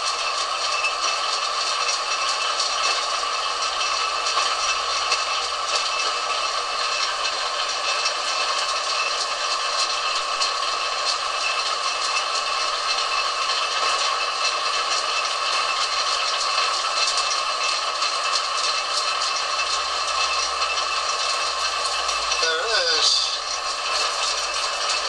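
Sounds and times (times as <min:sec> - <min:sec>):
lathe running: 0:00.0 - 0:25.0.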